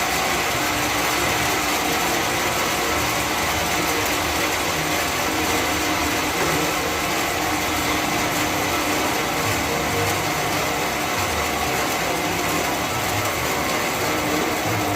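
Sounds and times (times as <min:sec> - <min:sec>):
sawmill machinery running: 0:00.0 - 0:14.9.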